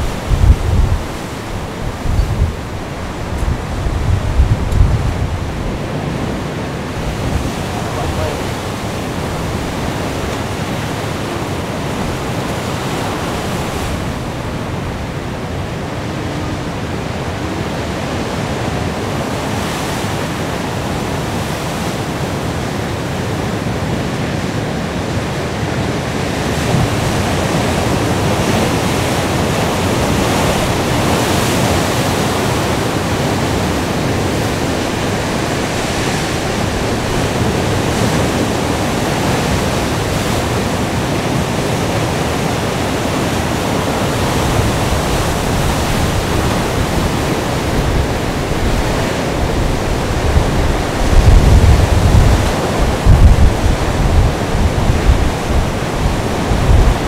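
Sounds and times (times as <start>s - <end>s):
breaking waves: 0.0s - 57.0s
wind: 0.0s - 57.0s.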